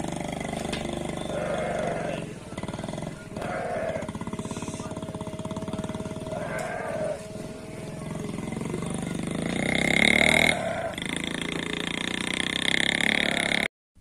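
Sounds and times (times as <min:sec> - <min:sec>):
sheep and goats bleating: 0:00.0 - 0:11.6, 0:13.2 - 0:13.6
small engine running: 0:00.0 - 0:13.7.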